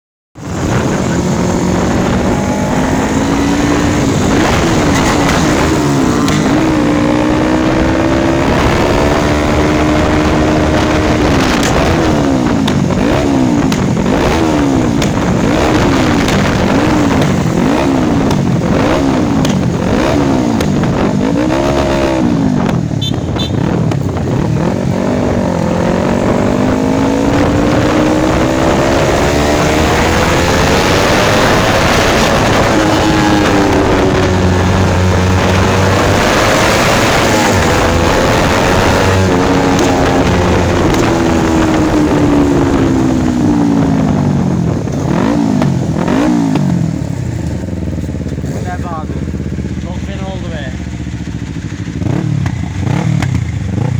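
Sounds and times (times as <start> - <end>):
motorcycle engine revving: 0.4 - 53.9.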